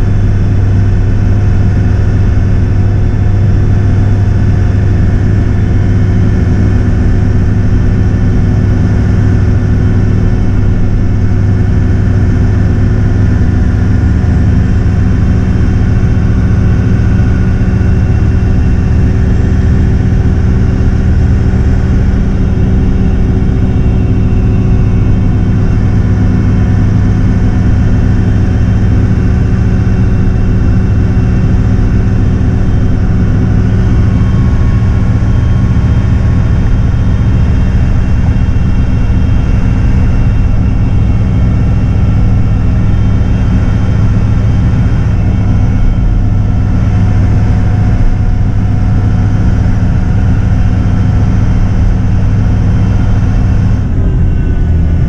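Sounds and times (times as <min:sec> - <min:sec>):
diesel engine droning: 0:00.0 - 0:55.0
road noise: 0:00.0 - 0:55.0.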